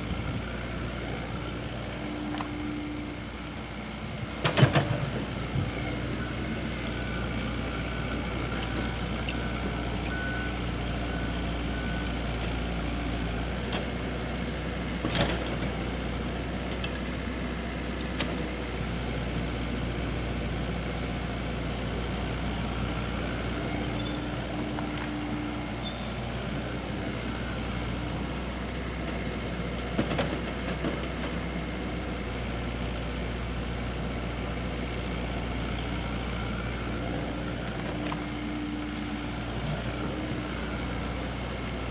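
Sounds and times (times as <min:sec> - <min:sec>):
excavator engine humming: 0:00.0 - 0:41.9.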